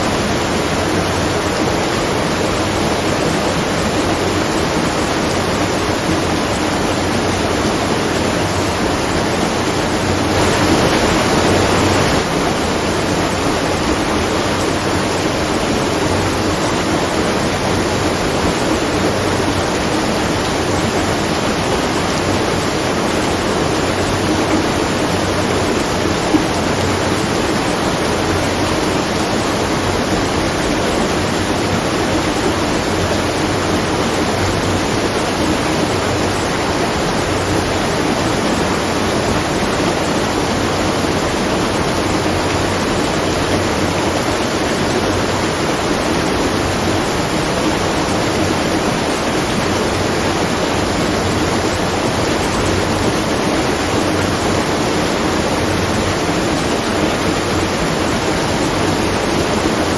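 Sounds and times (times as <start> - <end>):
water rushing at a watermill: 0.0 - 59.9.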